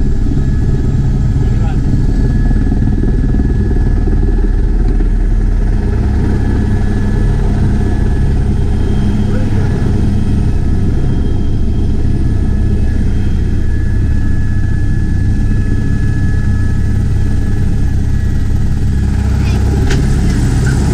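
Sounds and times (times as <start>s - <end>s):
faint steady whine: 0.0s - 20.9s
helicopter rumble: 0.0s - 20.9s.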